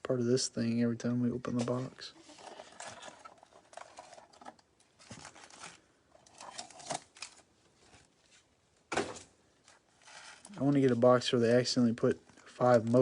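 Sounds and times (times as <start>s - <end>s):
cards and wrappers rustling: 1.4s - 11.4s, 12.0s - 13.0s.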